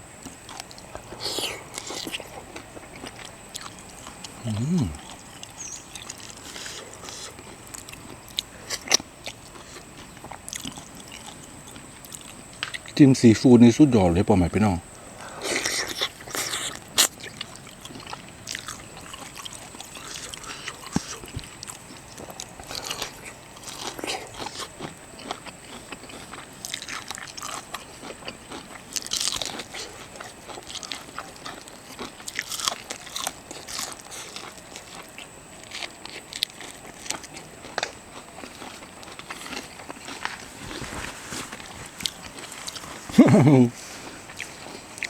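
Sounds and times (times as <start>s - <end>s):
person biting and chewing: 0.5s - 12.8s, 15.4s - 45.0s.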